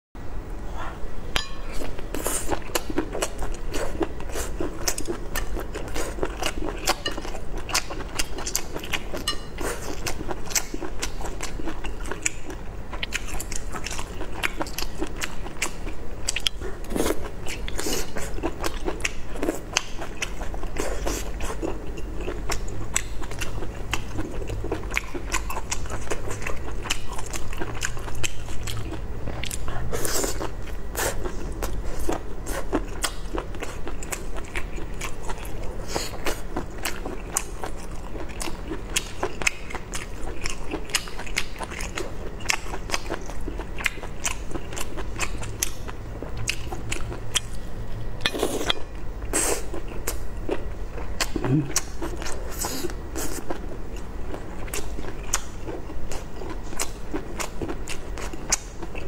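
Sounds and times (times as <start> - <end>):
person chewing: 0.7 - 59.0.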